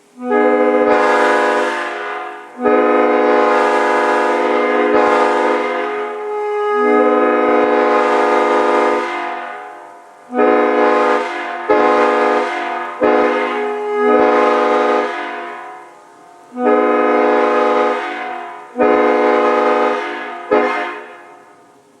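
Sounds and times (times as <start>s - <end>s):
locomotive air horn blasts: 0.0s - 21.8s.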